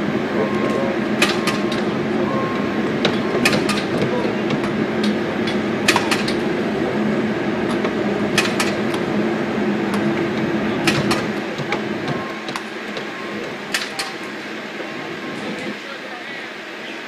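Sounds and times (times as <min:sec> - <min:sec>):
passing machine wheels humming: 0:00.0 - 0:17.0.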